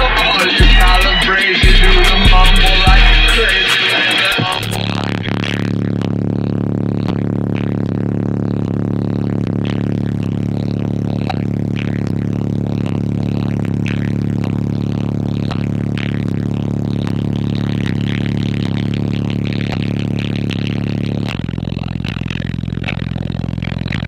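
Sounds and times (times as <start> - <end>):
distorted subwoofer bass drone: 0.0 - 24.0.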